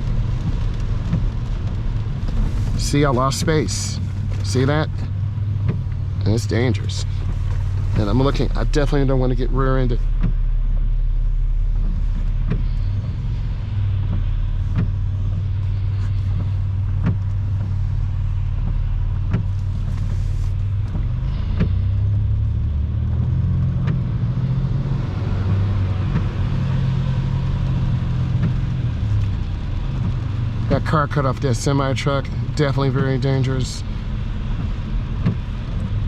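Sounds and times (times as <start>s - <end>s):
car engine and tyre noise: 0.0s - 36.0s.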